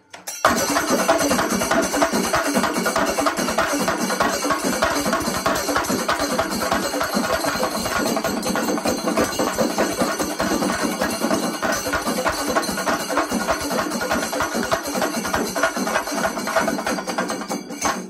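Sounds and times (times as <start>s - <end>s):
hand cymbals clashing: 0.0s - 18.0s
drums beaten fast with sticks: 0.2s - 18.0s.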